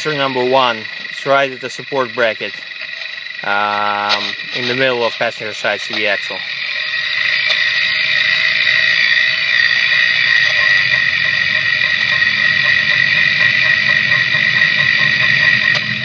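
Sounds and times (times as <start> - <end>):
high-pitched drivetrain whine: 0.0 - 16.0.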